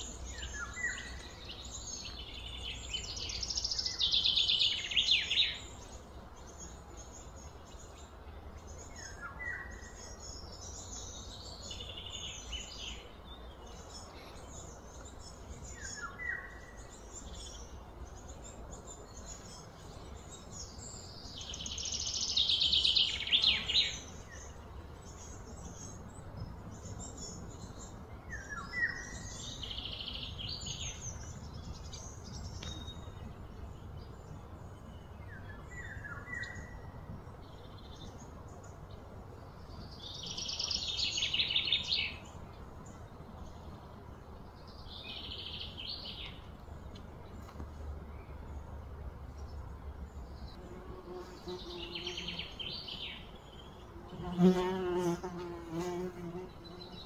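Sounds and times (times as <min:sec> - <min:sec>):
birds chirping: 0:00.0 - 0:57.0
low background noise: 0:00.0 - 0:57.0.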